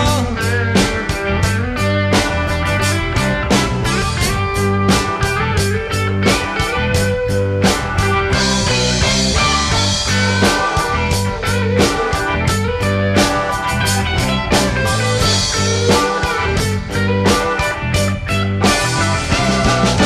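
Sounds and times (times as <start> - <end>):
bass guitar: 0.0 - 20.0
drum kit beat: 0.0 - 20.0
electric guitar: 0.0 - 20.0.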